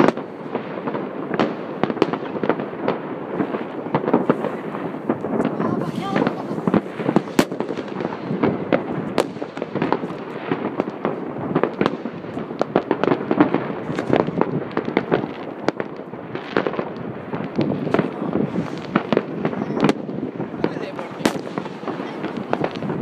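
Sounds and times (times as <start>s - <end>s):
fireworks and firecrackers crackling: 0.0s - 23.0s.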